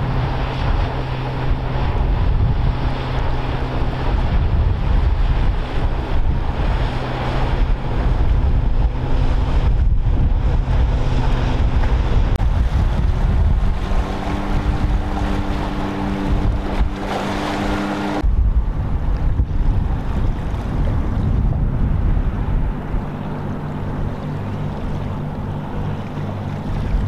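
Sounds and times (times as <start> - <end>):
boat engine hum: 0.0 - 27.0
higher engine tone: 0.0 - 27.0
sea wash: 0.0 - 27.0
wind buffeting microphone: 0.0 - 27.0.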